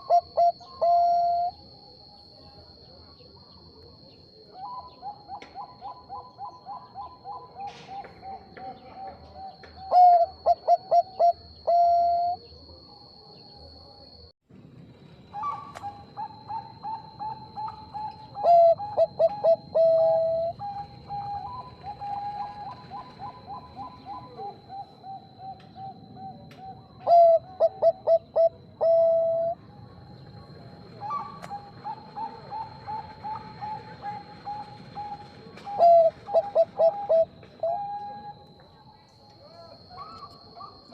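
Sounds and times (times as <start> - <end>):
dove cooing: 0.0 - 2.1, 3.9 - 12.7, 15.3 - 29.6, 30.9 - 38.5, 39.8 - 40.9.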